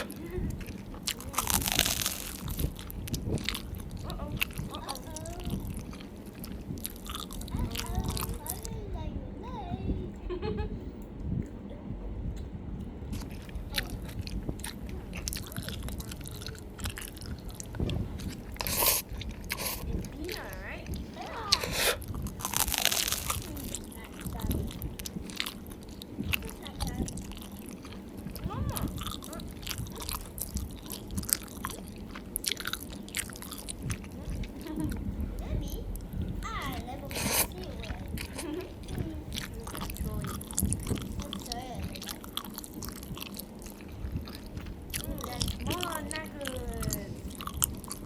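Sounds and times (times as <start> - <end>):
crunchy food chewing: 0.0 - 8.8, 12.8 - 48.0.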